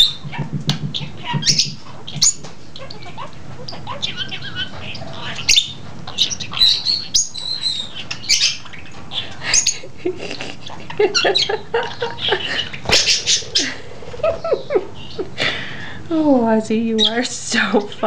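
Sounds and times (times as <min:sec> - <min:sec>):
budgerigar chattering and warbling: 0:00.0 - 0:15.3.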